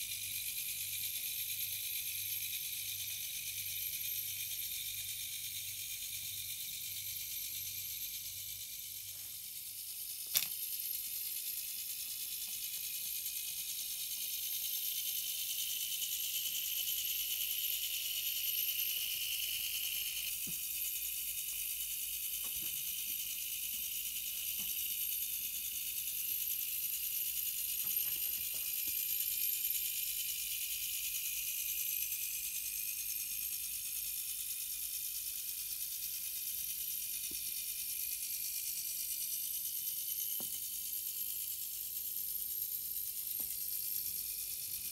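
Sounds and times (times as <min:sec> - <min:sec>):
clockwork motor whirring: 0:00.0 - 0:44.9.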